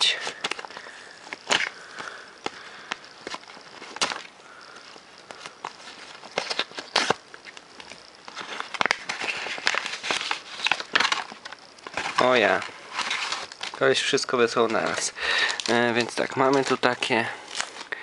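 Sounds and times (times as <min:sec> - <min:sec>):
plastic envelope crinkling and tearing: 0:00.0 - 0:18.0.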